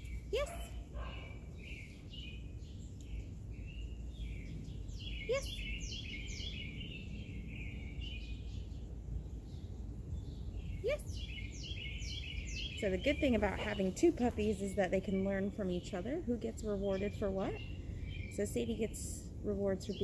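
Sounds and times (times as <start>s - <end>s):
birds chirping and singing: 0.0s - 20.0s
low outdoor rumble: 0.0s - 20.0s.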